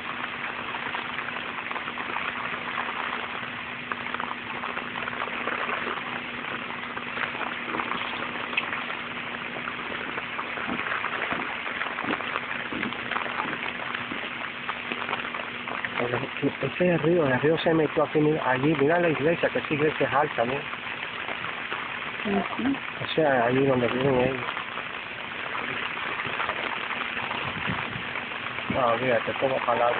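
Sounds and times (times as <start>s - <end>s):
faint steady hum: 0.0s - 29.9s
rain splashing into floodwater: 0.0s - 29.9s.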